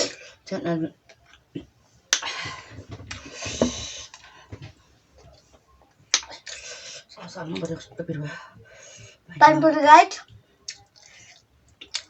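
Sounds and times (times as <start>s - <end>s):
noisy eating: 0.0s - 12.0s.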